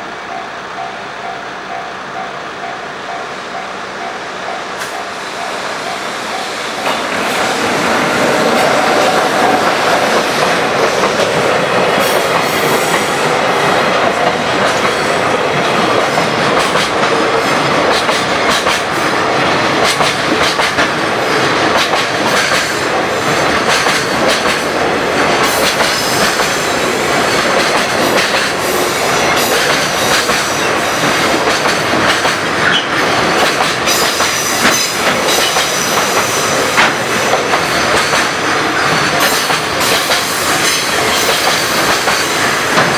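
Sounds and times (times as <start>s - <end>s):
freight train rolling past: 0.0s - 42.9s
wheels clacking over rail joints: 5.9s - 42.9s.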